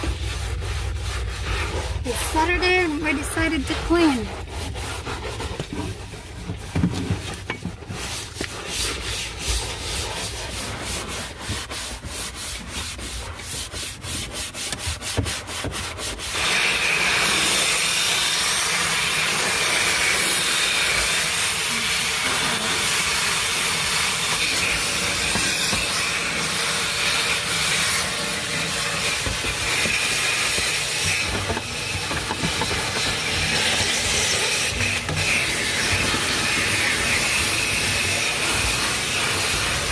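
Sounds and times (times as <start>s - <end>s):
brush scrubbing floor: 0.0s - 39.9s
vacuum cleaner running: 0.0s - 39.9s.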